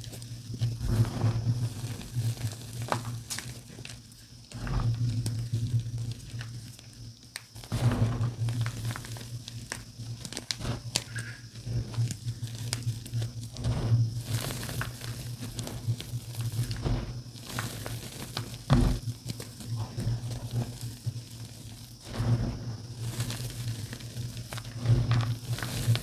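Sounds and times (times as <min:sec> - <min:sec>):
hands crunching chalk: 0:00.0 - 0:26.0.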